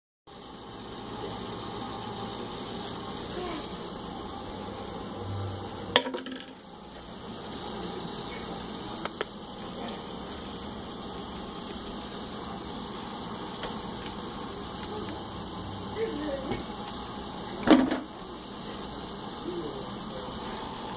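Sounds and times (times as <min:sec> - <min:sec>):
room hum: 0:00.3 - 0:20.9.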